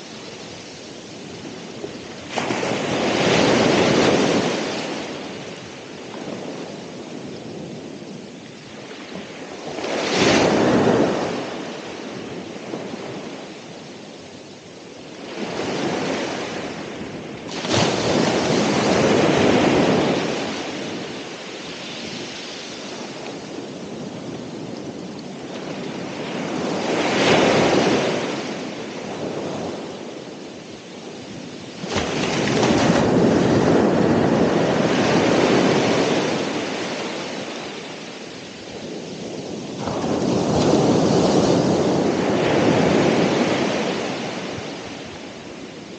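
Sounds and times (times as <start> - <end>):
ocean waves breaking: 0.0 - 7.9, 8.7 - 13.8, 15.1 - 45.9.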